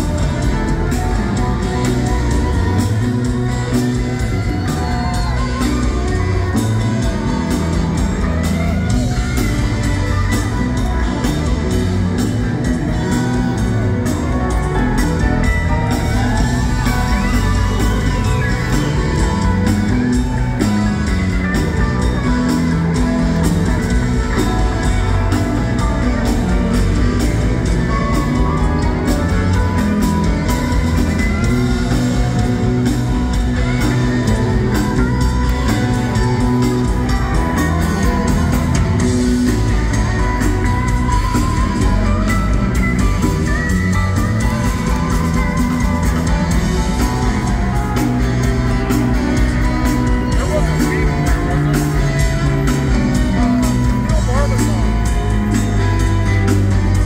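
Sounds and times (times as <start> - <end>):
lead electric guitar bending: 0.0 - 57.0
live rock band playing: 0.0 - 57.0.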